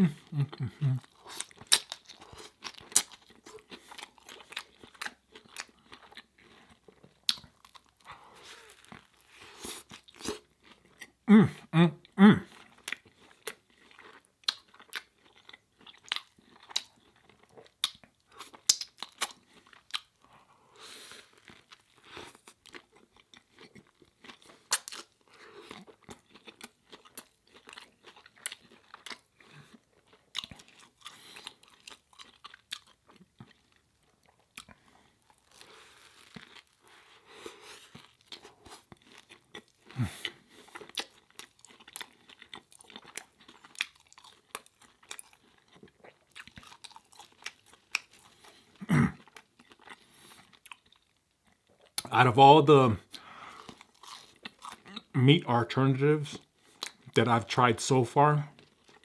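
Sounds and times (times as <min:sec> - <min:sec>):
person chewing crunchy food: 0:00.0 - 0:55.5, 0:56.2 - 0:57.4, 0:58.3 - 0:59.0.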